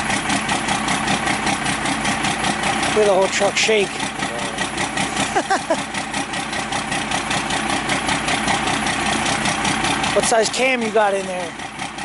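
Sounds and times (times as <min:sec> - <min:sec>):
diesel engine idling with clatter: 0:00.0 - 0:12.0.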